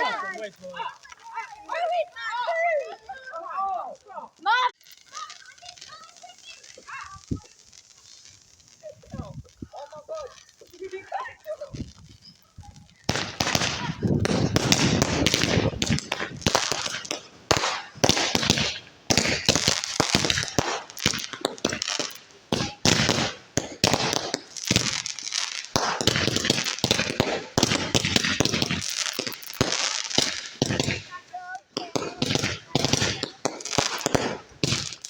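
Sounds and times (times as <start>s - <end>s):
firework barrage bangs and crackles: 0.0s - 35.0s.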